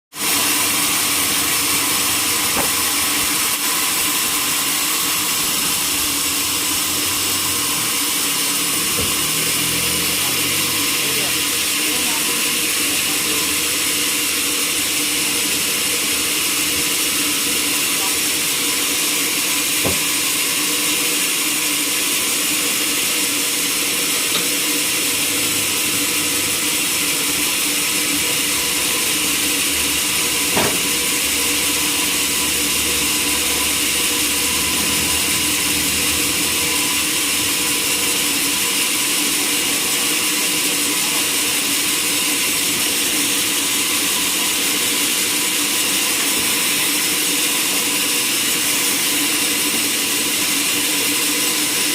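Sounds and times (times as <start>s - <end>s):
machinery hiss and hum: 0.2s - 51.8s.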